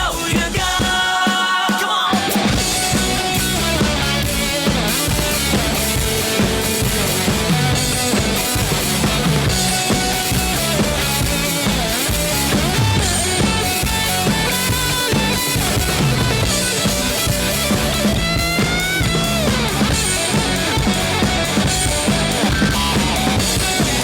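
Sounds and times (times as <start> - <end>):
upbeat rock band playing: 0.0 - 24.0.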